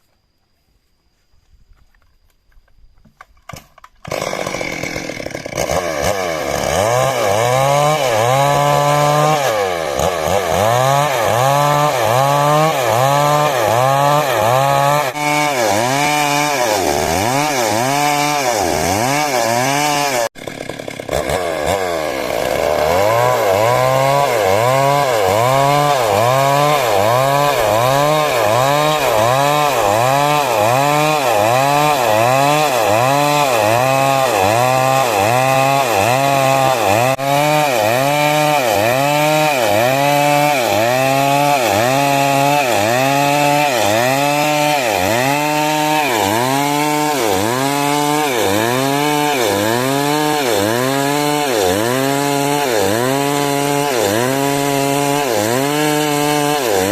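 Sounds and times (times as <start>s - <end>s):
chainsaw cutting wood: 2.6s - 56.9s.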